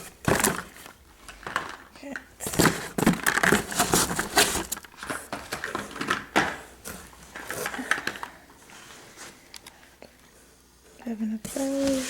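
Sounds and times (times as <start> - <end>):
packaged items rustling and clattering: 0.0 - 9.6, 11.5 - 12.0.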